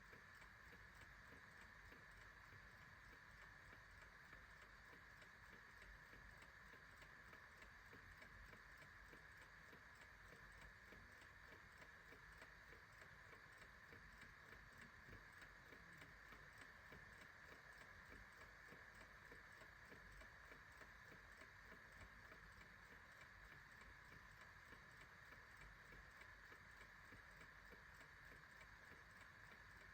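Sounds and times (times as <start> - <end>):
clock ticking: 0.0 - 29.9
low steady hiss: 0.0 - 29.9.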